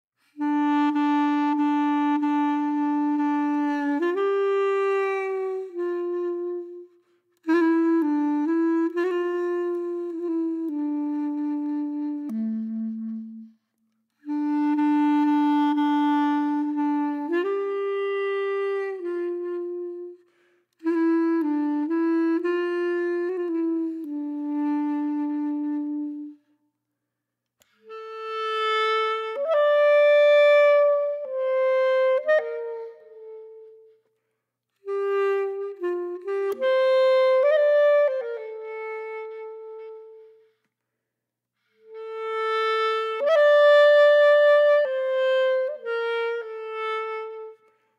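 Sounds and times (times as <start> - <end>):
reed wind instrument melody: 0.2 - 26.7, 27.6 - 40.7, 41.6 - 47.9.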